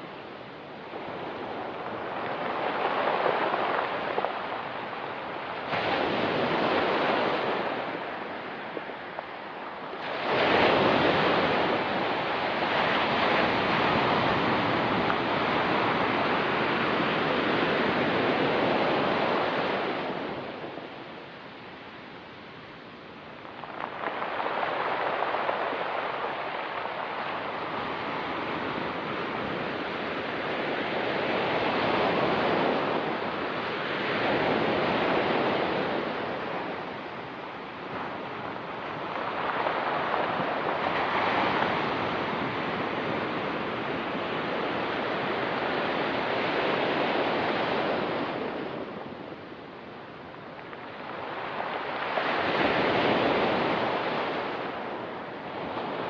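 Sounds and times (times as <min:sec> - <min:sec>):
ocean surf on rocky beach: 0:00.0 - 0:56.0.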